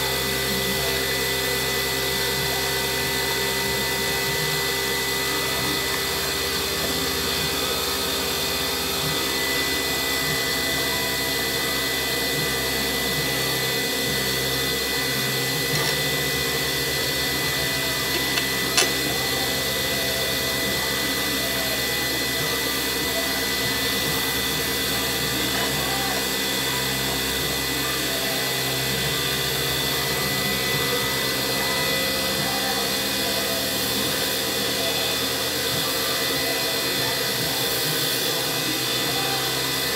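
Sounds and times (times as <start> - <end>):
wood lathe whining: 0.0 - 39.9.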